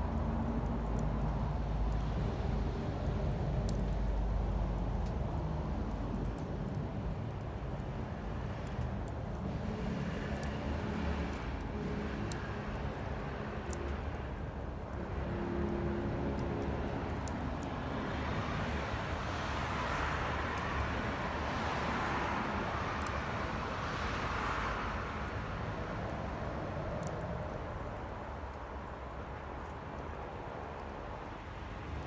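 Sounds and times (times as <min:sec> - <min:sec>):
campfire crackles: 0:00.0 - 0:32.0.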